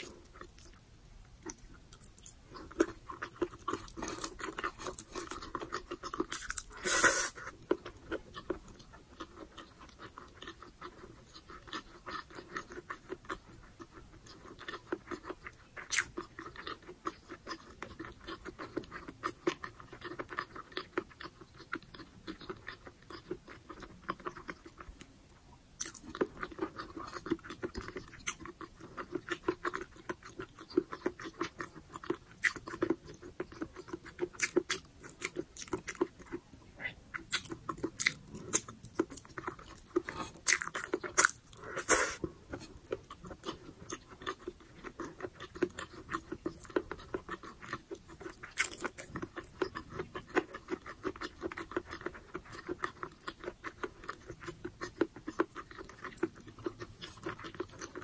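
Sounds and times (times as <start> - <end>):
chewing with mouth clicks: 0.0 - 58.0.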